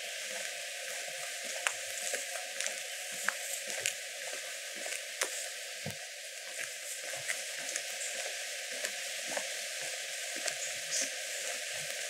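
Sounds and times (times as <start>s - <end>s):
light rain falling: 0.0s - 12.0s.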